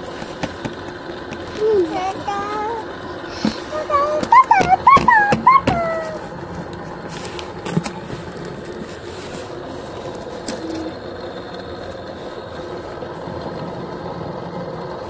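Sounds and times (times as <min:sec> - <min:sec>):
fan and motor whirring: 0:00.0 - 0:15.0.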